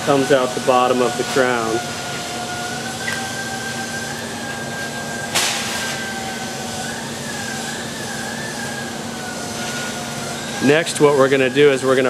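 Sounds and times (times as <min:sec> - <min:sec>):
hissing rush: 0:00.0 - 0:12.0
machine hum with high whine: 0:00.0 - 0:12.0.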